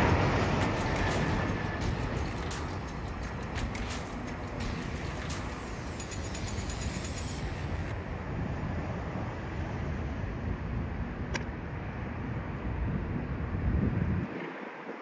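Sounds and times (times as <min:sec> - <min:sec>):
high engine whine: 0:00.0 - 0:15.0
jet airliner rumble on runway: 0:00.0 - 0:15.0.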